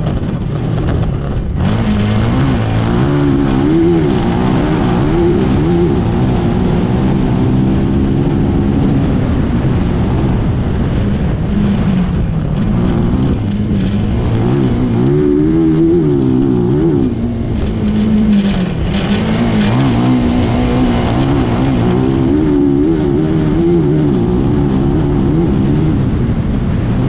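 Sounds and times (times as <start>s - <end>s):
race buggy engine revving: 0.0s - 27.0s
rush of noise: 0.0s - 27.0s.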